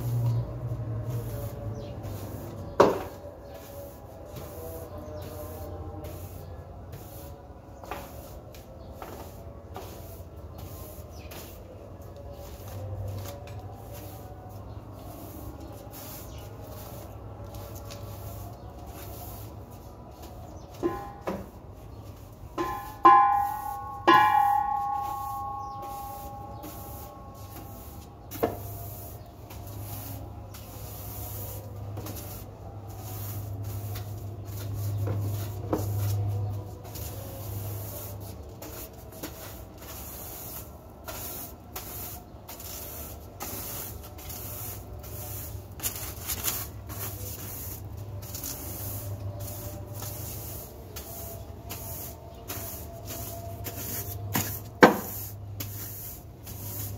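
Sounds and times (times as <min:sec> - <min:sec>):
broom sweeping tiled floor: 0:00.0 - 0:56.9.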